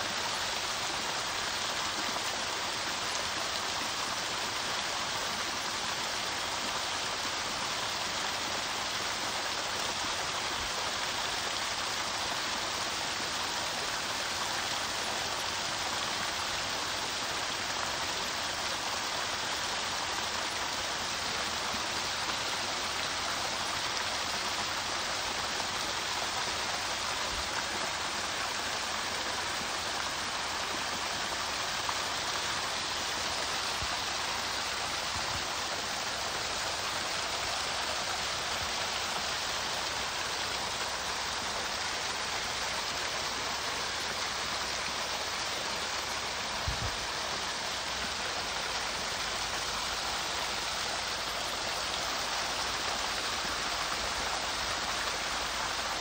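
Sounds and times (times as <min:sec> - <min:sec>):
waterfall splashing into stream: 0:00.0 - 0:56.0.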